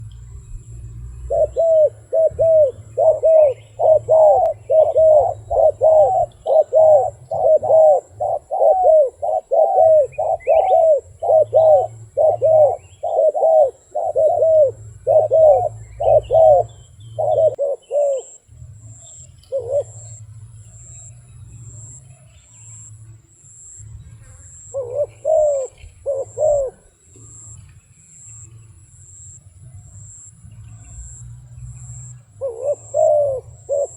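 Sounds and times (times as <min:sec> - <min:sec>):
dove cooing: 0:00.0 - 0:22.3, 0:24.5 - 0:27.7, 0:29.7 - 0:33.9.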